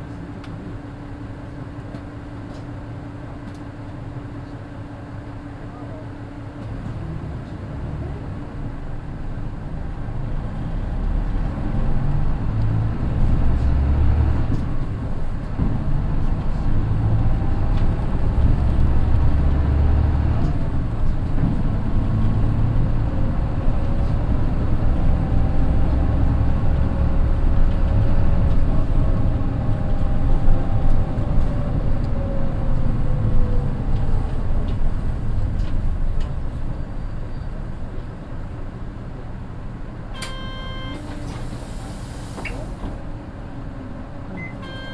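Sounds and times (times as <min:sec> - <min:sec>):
bus diesel engine pulling hard: 0:00.0 - 0:44.9.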